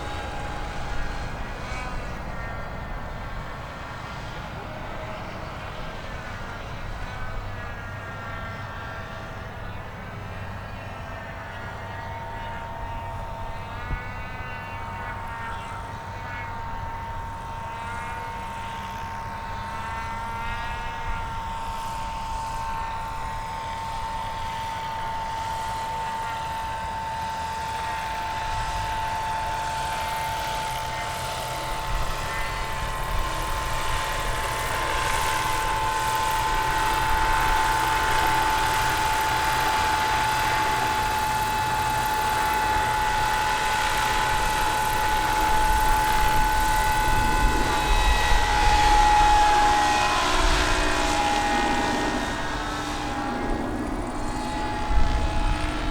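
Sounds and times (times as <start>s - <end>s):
model aircraft motor whining: 0.0s - 55.9s.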